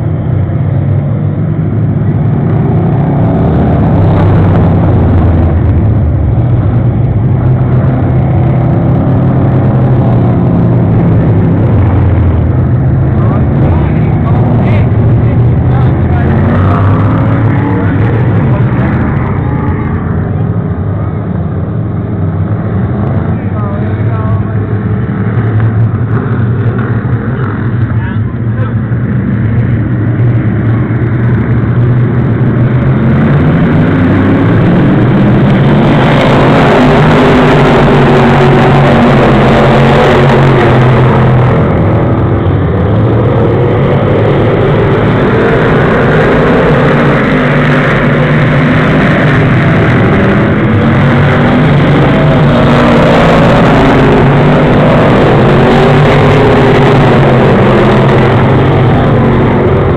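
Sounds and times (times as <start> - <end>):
race cars passing at high revs: 0.0 - 59.9.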